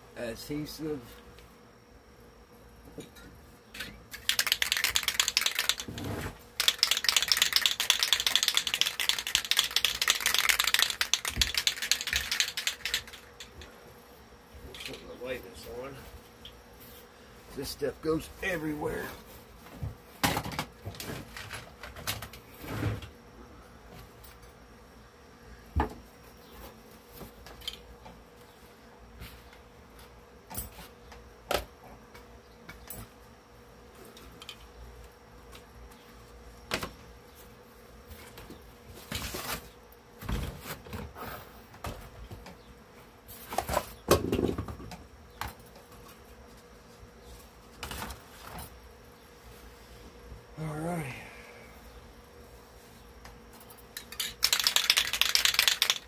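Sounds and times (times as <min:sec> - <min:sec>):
faint steady buzz: 0:00.0 - 0:56.0.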